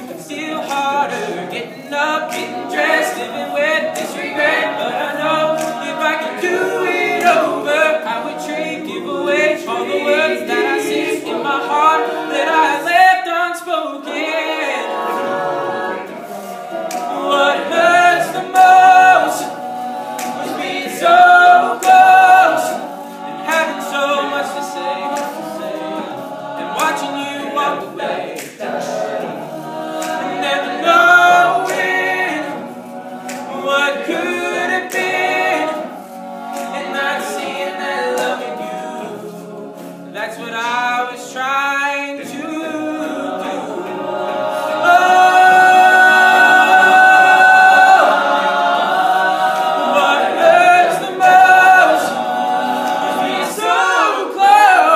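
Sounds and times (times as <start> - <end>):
male a cappella group singing: 0.0 - 54.9.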